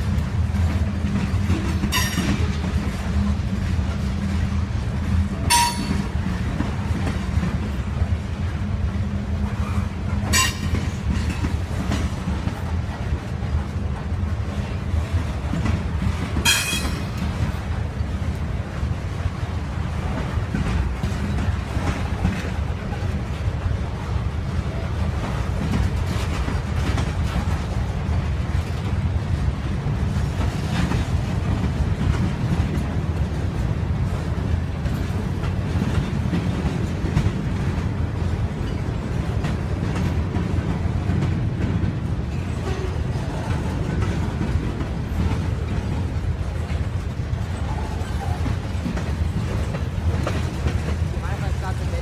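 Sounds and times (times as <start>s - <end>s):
train wheels rumbling on rail: 0.0s - 52.0s
wheels clanking over rail joints: 0.0s - 52.0s.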